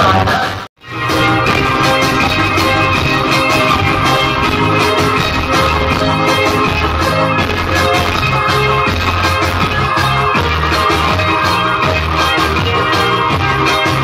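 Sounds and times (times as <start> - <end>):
loud music from car speakers: 0.0 - 14.0
song with drums: 0.0 - 14.0.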